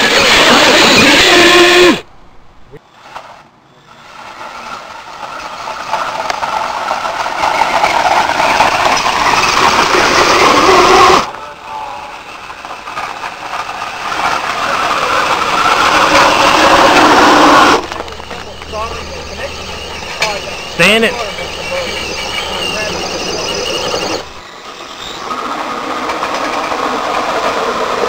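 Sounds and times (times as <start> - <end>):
rc vehicle motor straining: 0.0 - 2.0, 3.9 - 28.0.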